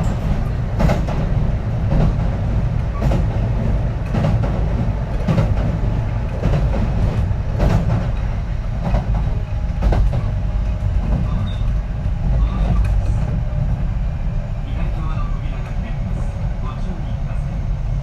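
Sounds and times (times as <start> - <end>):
rail joint clacks: 0.0 - 18.0
train wheels rumbling on rail: 0.0 - 18.0.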